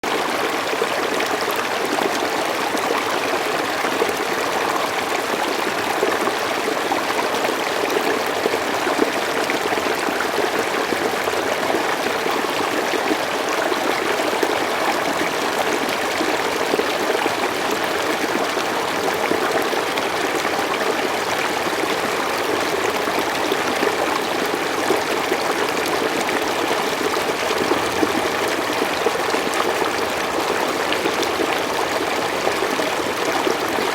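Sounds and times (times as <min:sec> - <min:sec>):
stream flowing: 0:00.0 - 0:33.9.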